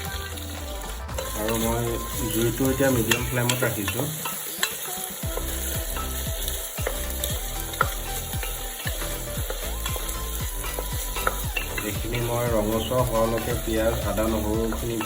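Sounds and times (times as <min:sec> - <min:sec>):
onion sizzling in hot oil: 0:00.0 - 0:15.0
utensil scraping metal pot: 0:00.0 - 0:15.0.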